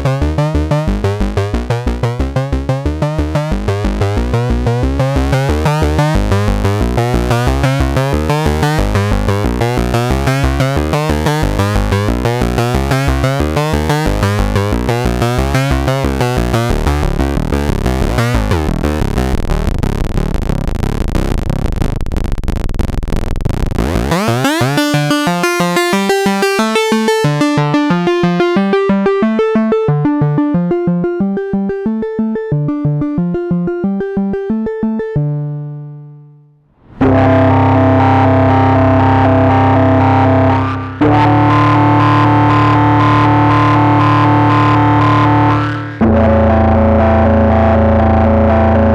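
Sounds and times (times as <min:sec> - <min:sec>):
synthesizer bass sequence: 0:00.0 - 0:36.0, 0:36.8 - 0:48.9.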